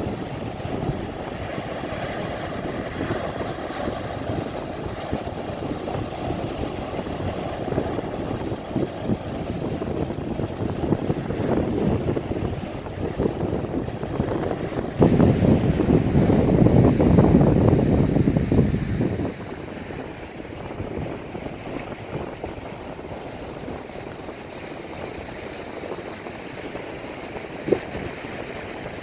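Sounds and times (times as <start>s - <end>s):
waves breaking: 0.0s - 29.0s
wind buffeting microphone: 0.0s - 29.0s.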